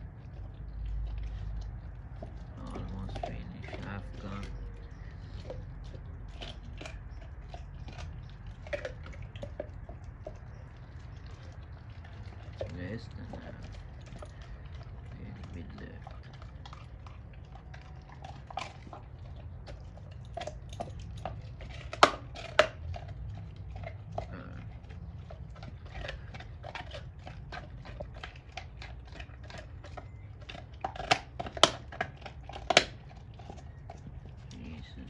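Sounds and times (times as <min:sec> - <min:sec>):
dog chewing and crunching bone: 0:00.0 - 0:35.0.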